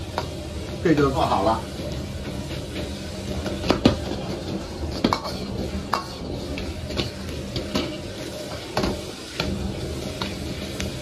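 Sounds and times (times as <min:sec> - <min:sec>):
metal ladle scraping a wok: 0:00.0 - 0:11.0.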